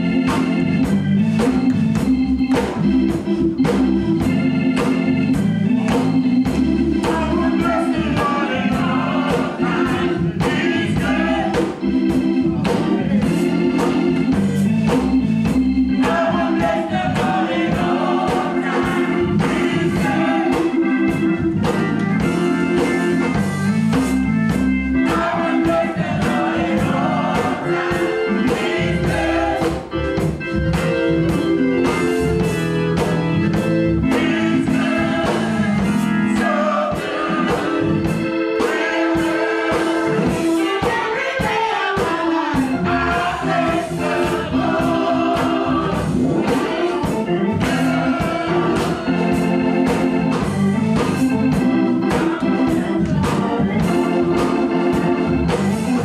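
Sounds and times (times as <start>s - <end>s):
gospel choir singing: 0.0s - 56.0s
instrumental backing with beat: 0.0s - 56.0s.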